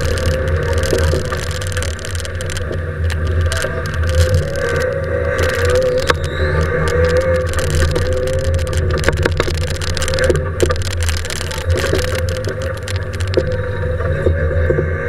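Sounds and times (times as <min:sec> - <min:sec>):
sharp knocks and clicks: 0:00.0 - 0:14.8
car engine running hard: 0:00.0 - 0:15.0
road noise: 0:00.0 - 0:15.0.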